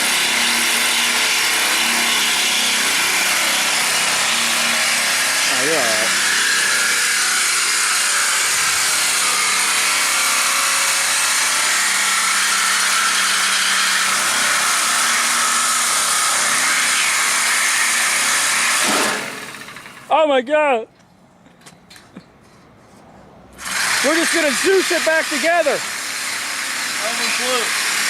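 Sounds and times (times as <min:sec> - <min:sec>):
power tool cutting sheet steel: 0:00.0 - 0:20.1, 0:23.6 - 0:28.0.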